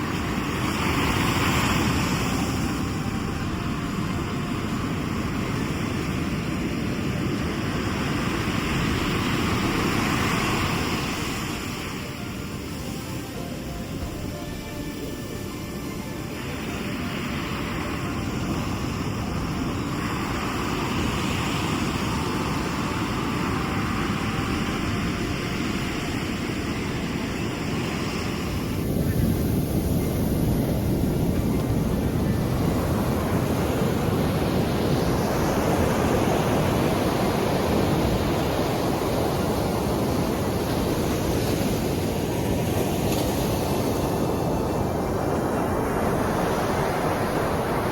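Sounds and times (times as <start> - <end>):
sea waves washing ashore: 0.0 - 47.9
wind on microphone: 0.0 - 47.9.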